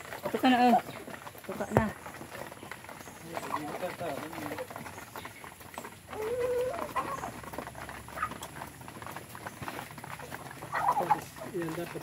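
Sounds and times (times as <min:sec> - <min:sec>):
chickens pecking on wooden trough: 0:00.0 - 0:12.0.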